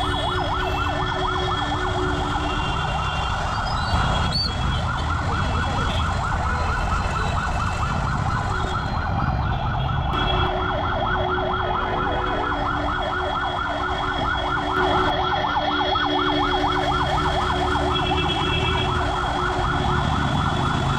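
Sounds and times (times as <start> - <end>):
ambulance siren yelping: 0.0 - 20.9
traffic rumble: 0.0 - 20.9.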